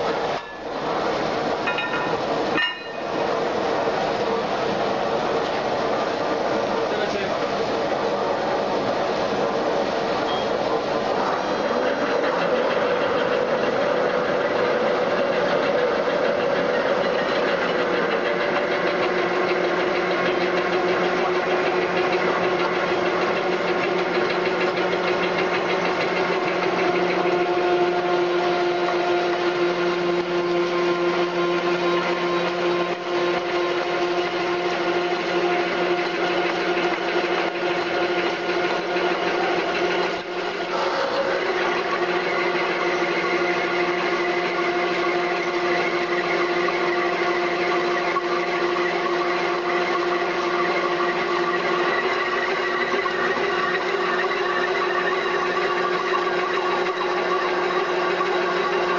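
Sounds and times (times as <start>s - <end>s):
lathe cutting metal: 0.0s - 58.9s.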